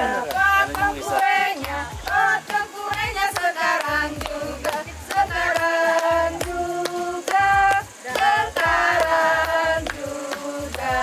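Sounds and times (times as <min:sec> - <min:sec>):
group of people singing: 0:00.0 - 0:11.0
hand claps: 0:00.0 - 0:11.0.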